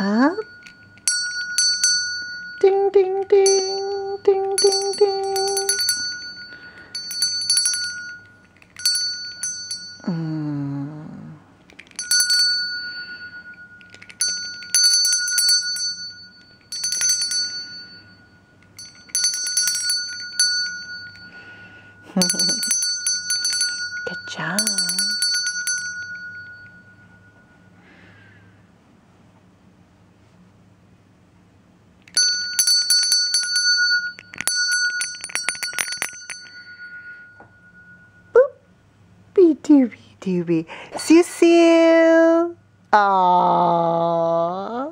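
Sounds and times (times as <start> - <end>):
small bell ringing: 0.0 - 28.6, 32.0 - 39.5.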